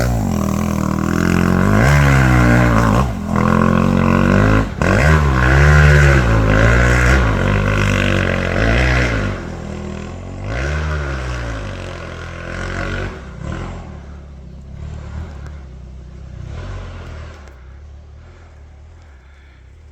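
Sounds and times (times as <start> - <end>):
dirt bike engine revving: 0.0 - 19.6.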